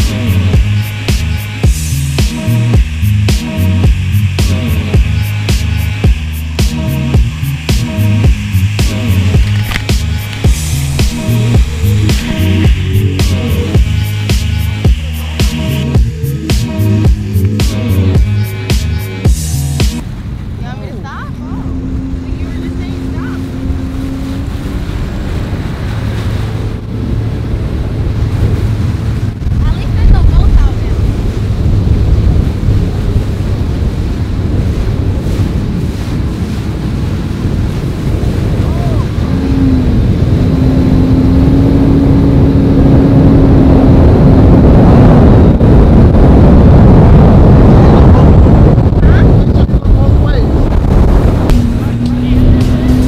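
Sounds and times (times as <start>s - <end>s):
jet ski engine hum: 0.0s - 53.0s
water rushing: 0.0s - 53.0s
wind buffeting microphone: 0.0s - 53.0s.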